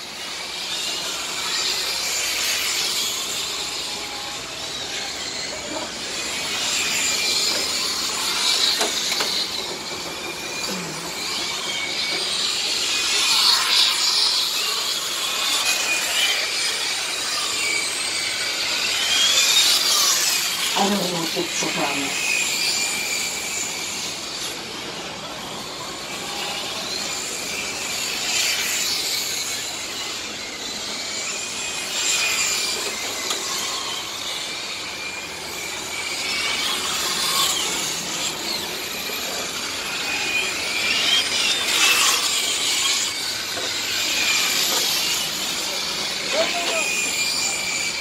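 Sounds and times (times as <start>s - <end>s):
model race cars whining: 0.0s - 48.0s.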